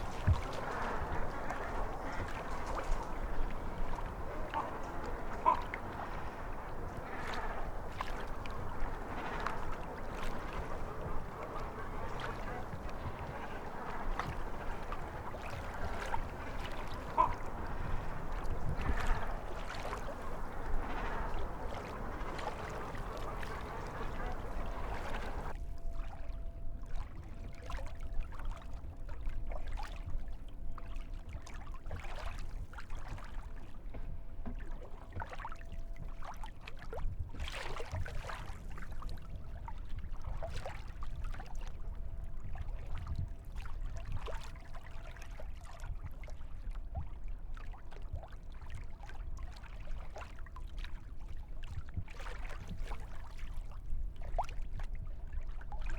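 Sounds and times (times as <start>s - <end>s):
water splashing around kayak: 0.0s - 55.9s
wind rumble on microphone: 0.0s - 55.9s.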